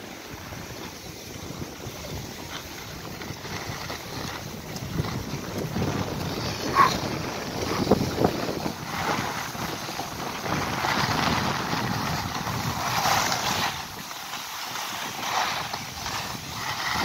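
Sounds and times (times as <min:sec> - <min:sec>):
skis sliding over snow: 0:00.0 - 0:17.0
wind buffeting microphone: 0:00.0 - 0:17.0.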